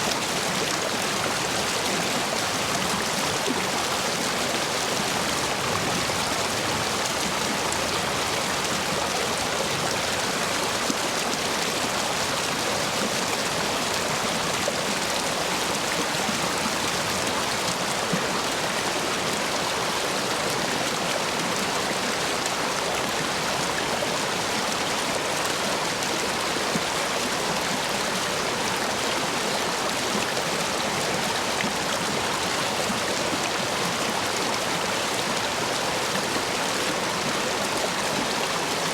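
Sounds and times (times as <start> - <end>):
stream water rushing over stones: 0.0 - 38.9.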